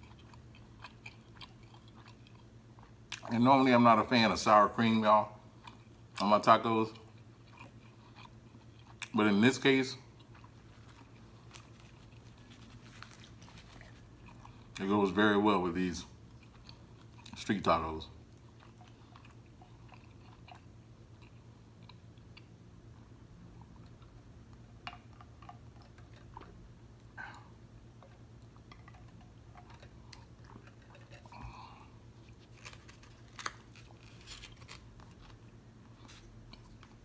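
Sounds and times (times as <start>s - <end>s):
chewing: 0.0s - 3.4s, 5.6s - 9.2s, 10.0s - 15.2s, 16.0s - 17.5s, 18.2s - 37.0s
low steady hum: 0.0s - 37.0s.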